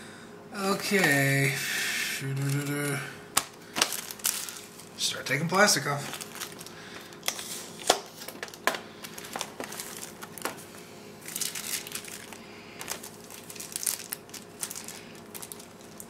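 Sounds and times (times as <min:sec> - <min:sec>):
plastic packaging crinkling: 0:02.2 - 0:16.0.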